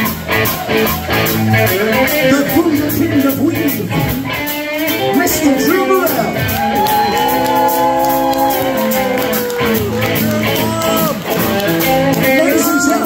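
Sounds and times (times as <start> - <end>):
electric guitar bending notes: 0.0 - 13.0
rock band playing: 0.0 - 13.0.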